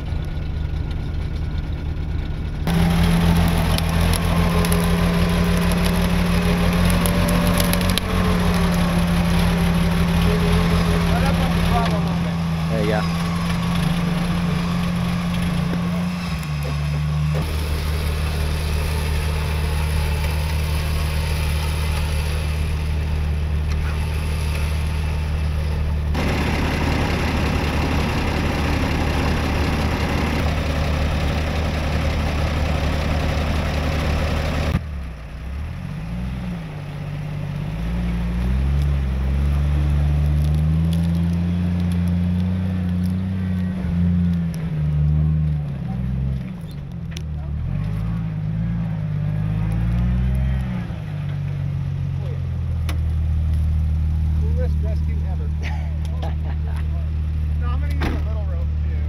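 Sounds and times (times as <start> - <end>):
vehicle engine running and revving: 0.0 - 59.0.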